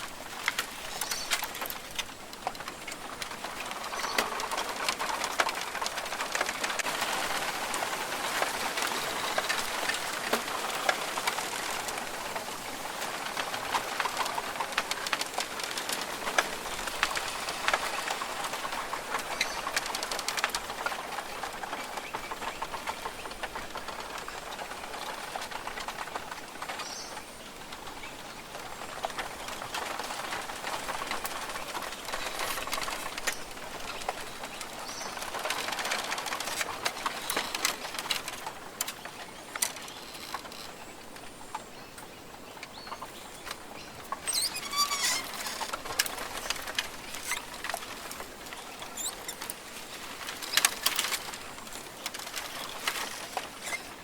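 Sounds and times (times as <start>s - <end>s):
raindrops on leaves: 0.0s - 54.0s.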